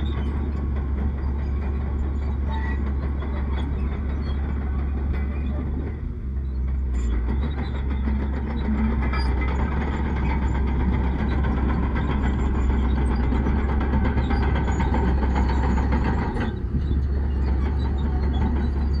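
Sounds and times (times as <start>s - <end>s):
deep diesel engine drone: 0.0s - 19.0s.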